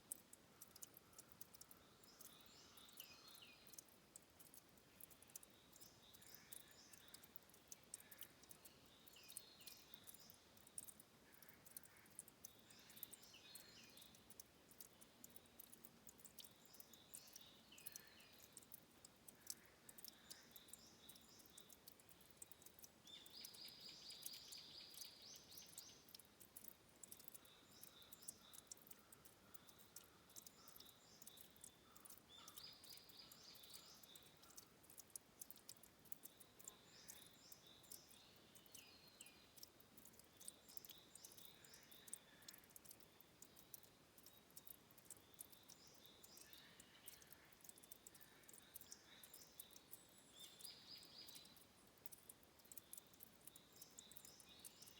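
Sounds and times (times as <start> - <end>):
small sharp ticks: 0.0 - 54.9.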